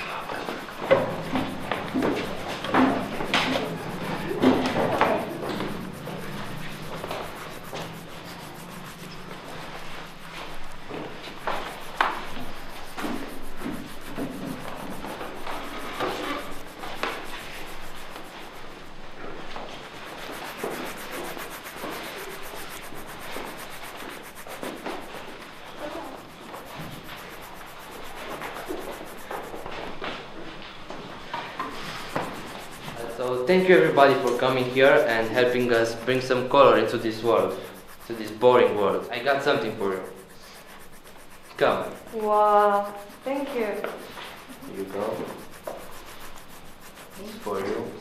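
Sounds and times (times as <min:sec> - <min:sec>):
paintbrushes scrubbing on canvas: 0:00.0 - 0:48.0
scratchy rubbing noise: 0:00.0 - 0:48.0.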